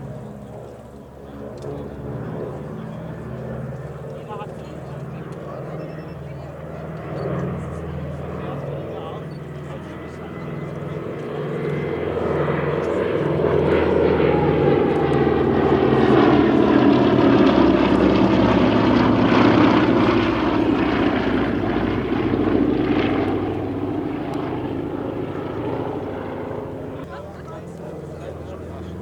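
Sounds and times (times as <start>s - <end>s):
propeller aircraft flying past: 0.0s - 29.0s.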